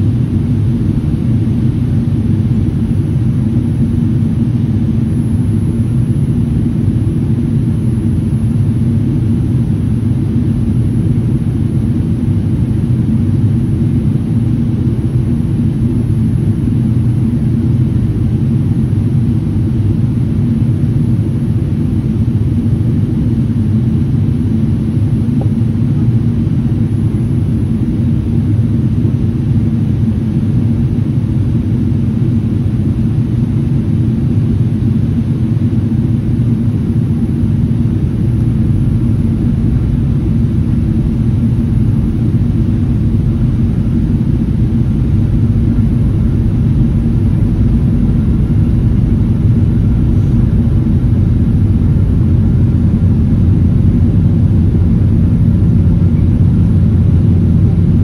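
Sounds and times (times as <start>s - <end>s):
airliner cabin engine rumble: 0.0s - 58.0s
faint high whine: 0.0s - 58.0s.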